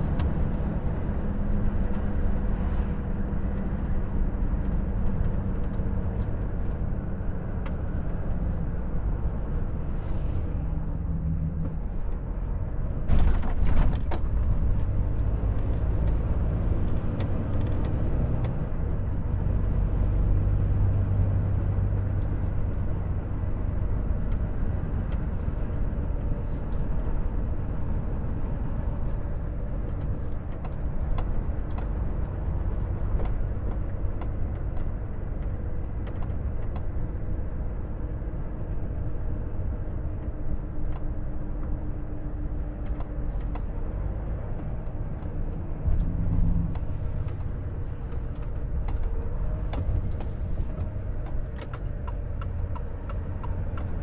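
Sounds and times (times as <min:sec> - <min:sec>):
road noise: 0:00.0 - 0:54.0
truck diesel engine drone: 0:00.0 - 0:54.0.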